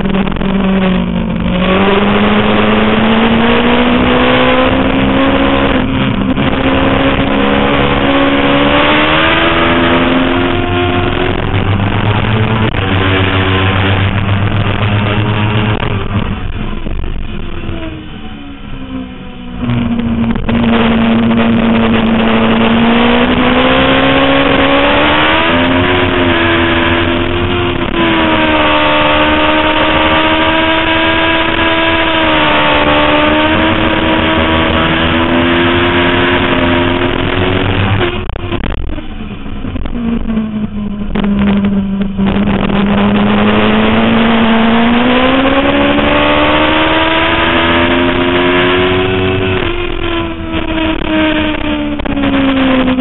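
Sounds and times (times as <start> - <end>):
sport bike engine revving hard: 0.0 - 17.4, 19.5 - 53.0.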